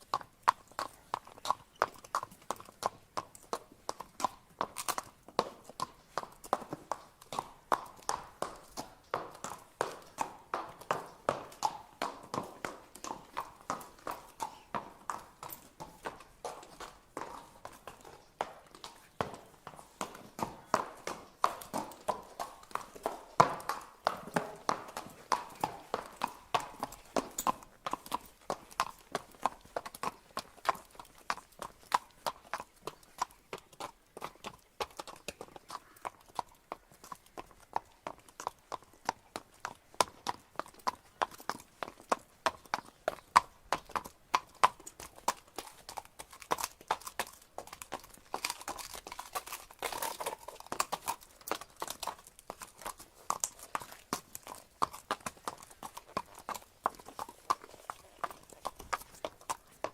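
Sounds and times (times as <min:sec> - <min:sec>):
horse hooves clip-clopping: 0:00.0 - 0:59.9.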